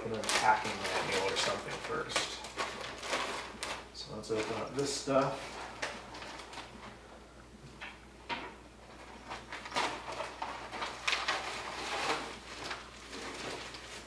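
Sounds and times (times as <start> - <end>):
plastic bag crinkling: 0.0 - 7.0, 8.8 - 14.0.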